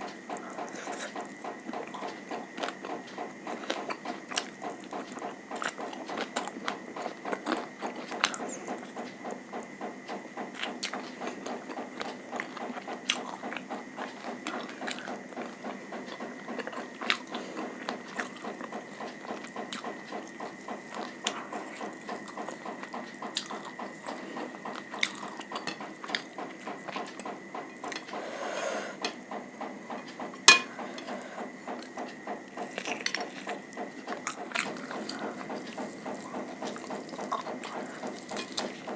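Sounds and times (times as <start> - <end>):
wet chewing: 0.3 - 28.2, 30.5 - 38.9.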